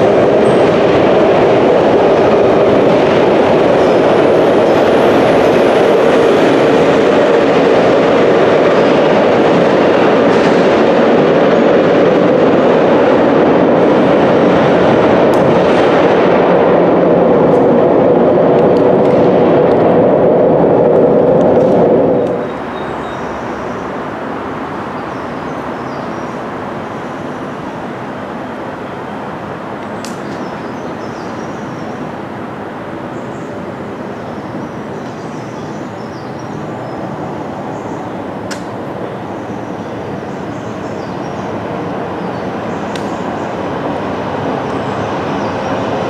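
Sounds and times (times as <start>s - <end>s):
underground train rumbling: 0.0s - 46.0s.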